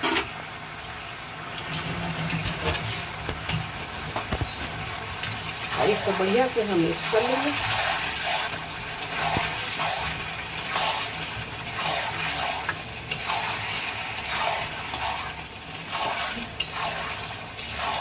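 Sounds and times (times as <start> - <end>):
meat sizzling in pan: 0.2 - 18.0.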